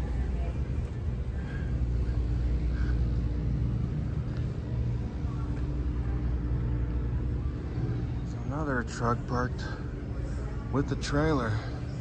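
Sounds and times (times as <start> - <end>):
faint steady hum: 0.0 - 12.0
low building rumble: 0.0 - 12.0.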